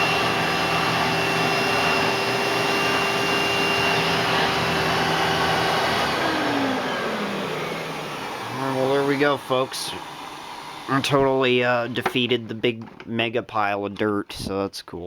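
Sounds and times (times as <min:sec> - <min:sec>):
upright vacuum running with whine: 0:00.0 - 0:12.5.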